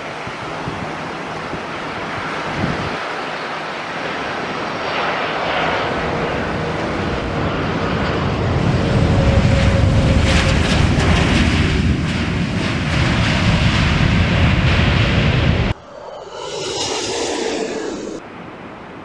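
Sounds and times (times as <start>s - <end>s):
jet engines rumbling on landing: 0.0s - 19.0s.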